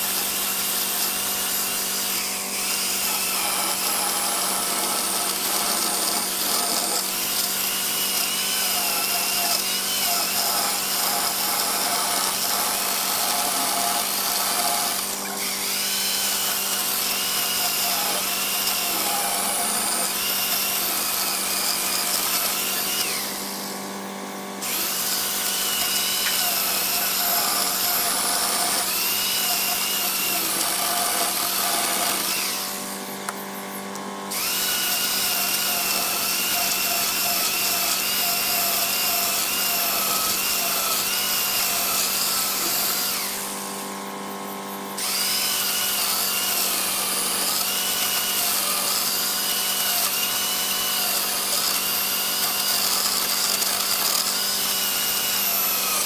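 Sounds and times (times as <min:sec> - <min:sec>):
electric chainsaw cutting wood: 0:00.0 - 0:56.0.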